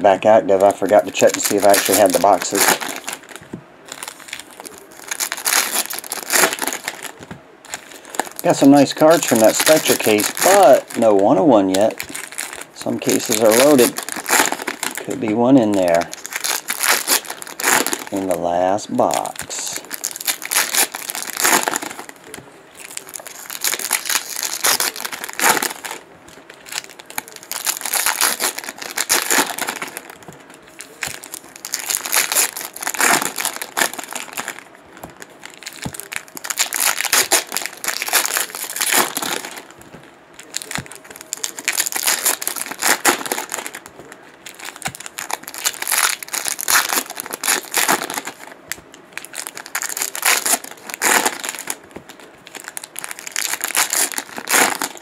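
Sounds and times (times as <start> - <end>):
card pack wrappers crinkling: 0.0 - 55.0.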